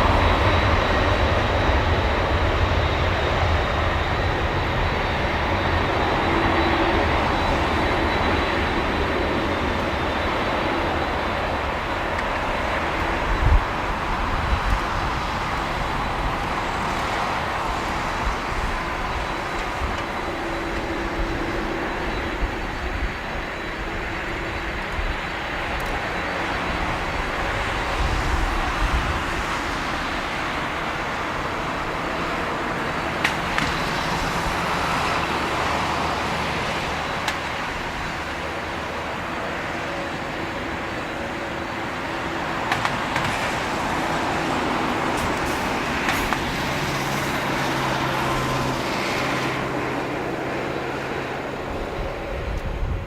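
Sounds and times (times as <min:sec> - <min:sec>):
distant jet engine rumble: 0:00.0 - 0:53.0.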